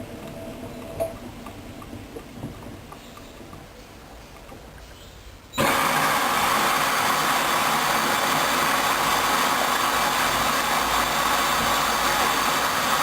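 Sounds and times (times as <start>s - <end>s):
washing machine rushing noise: 0.0s - 4.7s, 5.6s - 13.0s.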